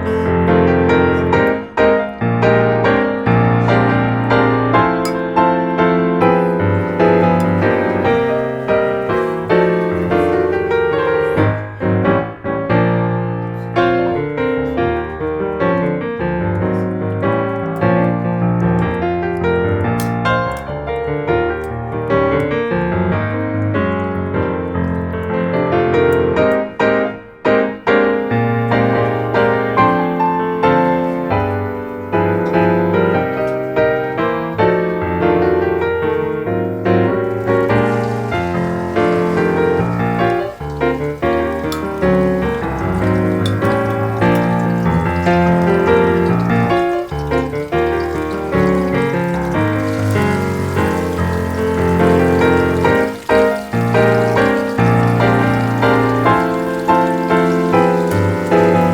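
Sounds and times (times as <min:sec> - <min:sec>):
piano music: 0:00.0 - 0:58.9.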